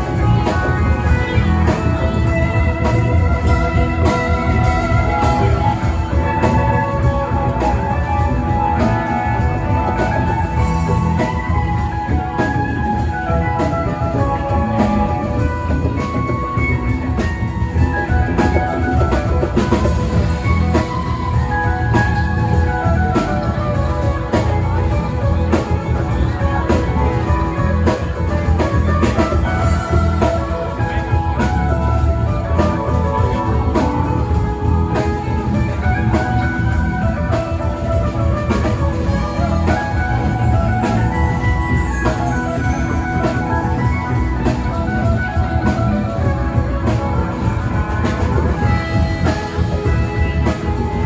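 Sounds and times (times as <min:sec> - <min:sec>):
drum kit beat: 0:00.0 - 0:51.0
electric guitar lines: 0:00.0 - 0:51.0.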